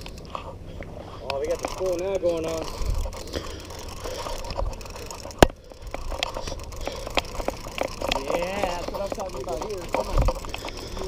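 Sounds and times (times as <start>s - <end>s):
fishing reel clicking: 1.2s - 11.0s.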